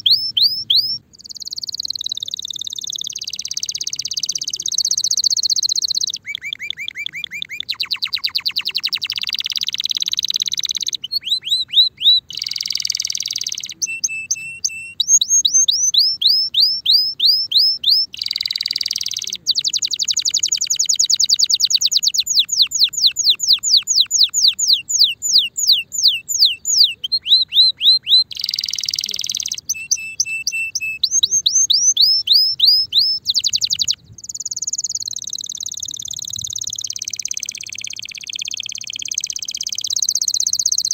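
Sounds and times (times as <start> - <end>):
canary singing trills: 0.0 - 40.9
harsh buzzy bird phrases: 0.0 - 40.9.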